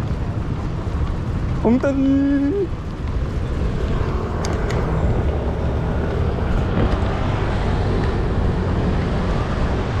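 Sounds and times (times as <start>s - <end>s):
traffic rumble: 0.0s - 10.0s
wind buffeting microphone: 0.0s - 10.0s.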